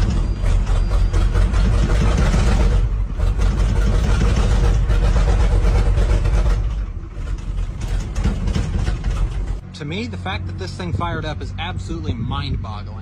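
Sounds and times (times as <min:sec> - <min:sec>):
diesel engine running rough: 0:00.0 - 0:13.0.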